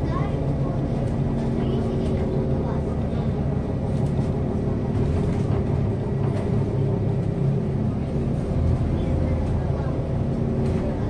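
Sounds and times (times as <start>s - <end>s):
bus engine humming: 0.0s - 11.0s.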